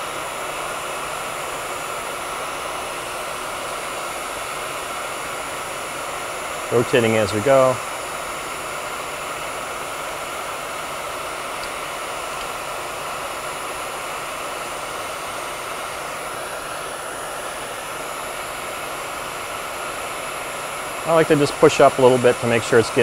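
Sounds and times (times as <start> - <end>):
heat gun fan blowing: 0.0 - 23.0.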